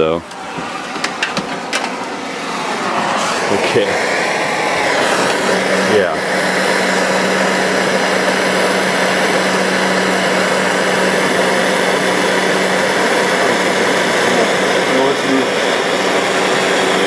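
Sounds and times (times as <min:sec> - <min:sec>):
fan motor humming: 0:00.0 - 0:17.0
torch flame hissing: 0:00.0 - 0:17.0.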